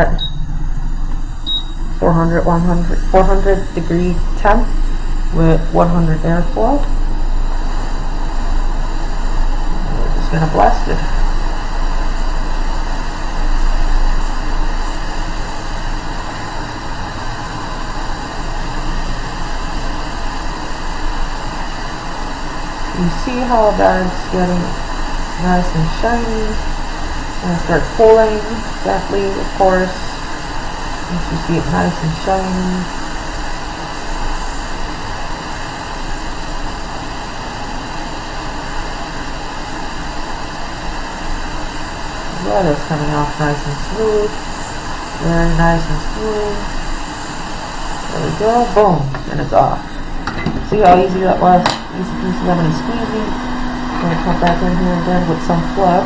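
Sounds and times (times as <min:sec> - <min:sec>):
hot air blower rushing: 0:00.0 - 0:56.0.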